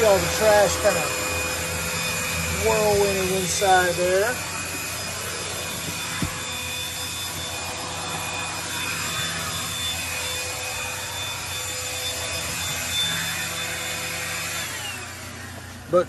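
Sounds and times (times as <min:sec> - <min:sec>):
handheld vacuum running: 0:00.0 - 0:16.0.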